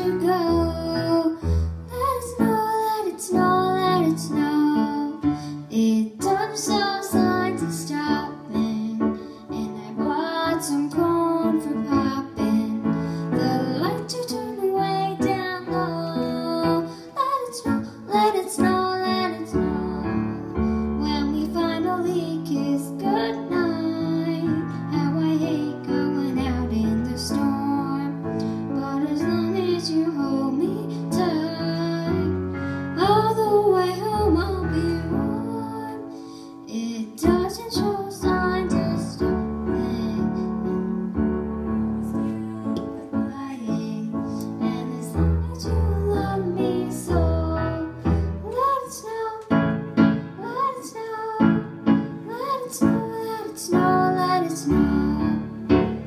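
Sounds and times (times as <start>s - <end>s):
girl singing into a microphone: 0.0s - 41.1s, 42.0s - 56.0s.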